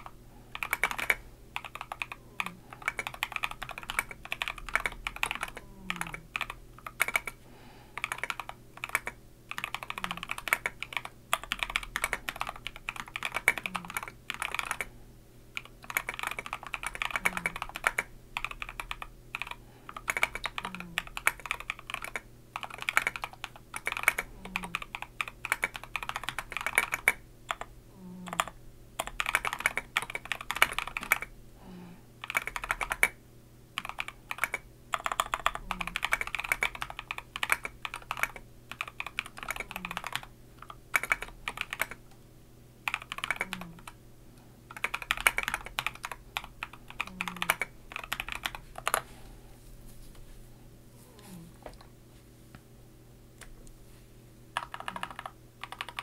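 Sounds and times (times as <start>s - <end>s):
typing on mechanical keyboard: 0.0s - 7.4s, 8.0s - 14.9s, 15.6s - 31.3s, 32.2s - 33.2s, 33.8s - 42.0s, 42.9s - 44.0s, 44.7s - 49.0s, 54.6s - 56.0s.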